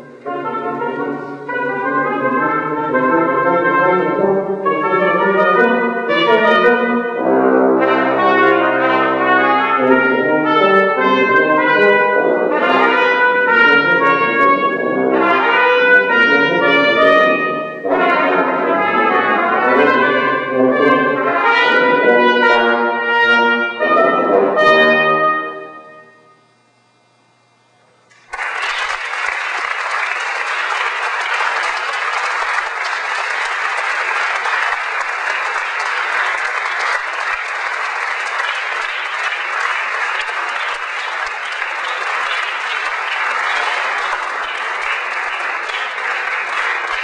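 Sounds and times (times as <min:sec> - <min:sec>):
brass instruments playing: 0:00.0 - 0:26.3, 0:28.4 - 0:47.0.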